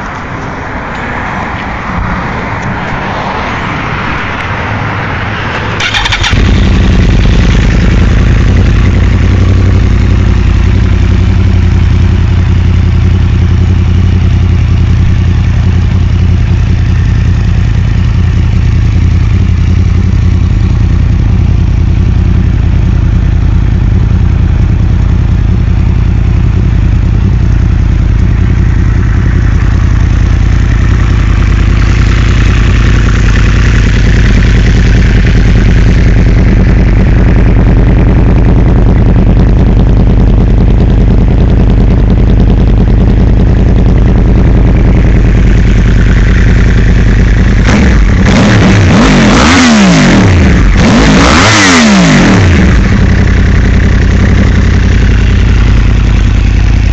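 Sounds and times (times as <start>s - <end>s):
motorcycle engine idling: 5.5s - 56.9s.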